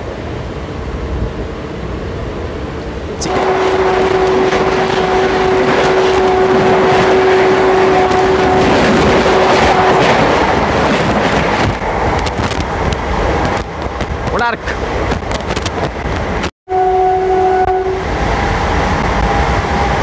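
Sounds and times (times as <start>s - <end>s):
train wheel clatter and hum: 0.0s - 16.5s, 17.5s - 20.0s
train passing with rush of air: 0.0s - 20.0s
train running noise: 0.0s - 20.0s.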